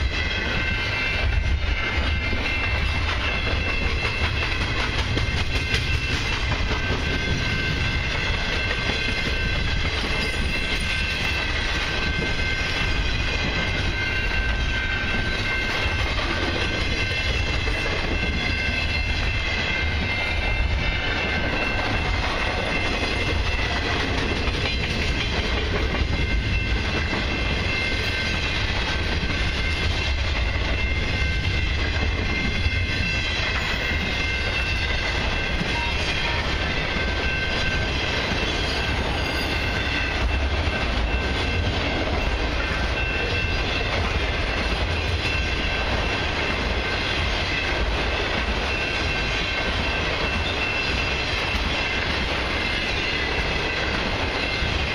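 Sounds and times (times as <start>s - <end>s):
freight train rumbling: 0.0s - 54.9s
wheels clattering on rail joints: 0.0s - 54.9s.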